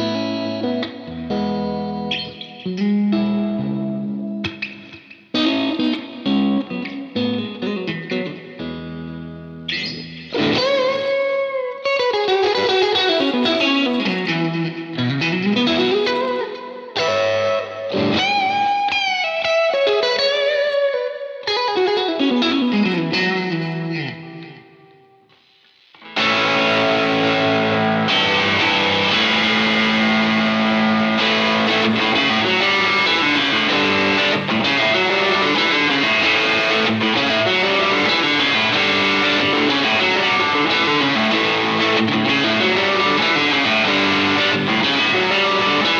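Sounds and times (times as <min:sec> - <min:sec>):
electric guitar single-note lines: 0:00.0 - 0:25.2, 0:26.0 - 0:45.9
overdriven guitar chords: 0:00.0 - 0:45.9.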